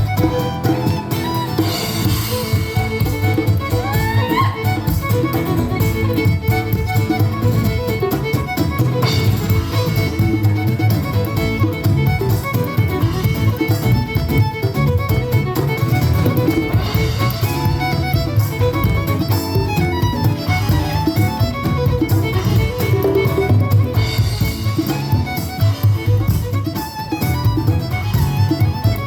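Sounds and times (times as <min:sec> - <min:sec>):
bass: 0:00.0 - 0:29.0
fiddle melody: 0:00.0 - 0:29.0
guitar: 0:00.0 - 0:29.0.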